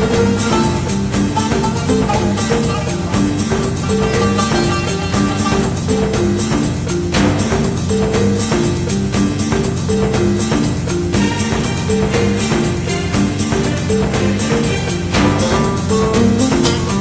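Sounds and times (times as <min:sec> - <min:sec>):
background music with steady beat: 0:00.0 - 0:17.0.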